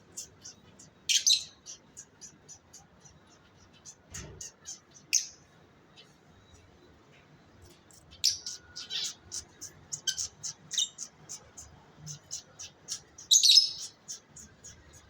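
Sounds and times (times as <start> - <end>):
lovebirds chirping: 0.0 - 6.8, 7.6 - 15.0.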